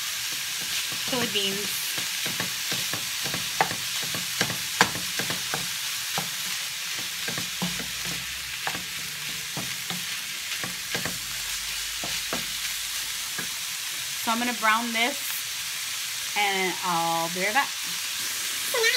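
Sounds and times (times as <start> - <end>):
meat sizzling in a skillet: 0.0 - 18.9.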